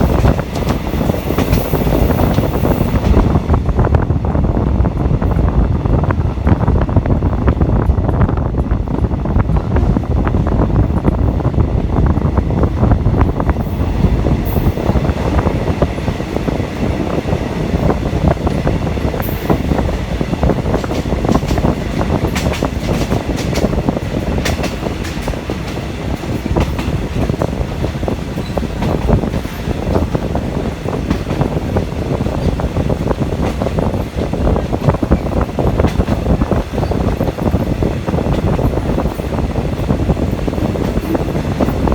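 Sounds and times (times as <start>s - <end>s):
train rumbling from on board: 0.0s - 41.9s.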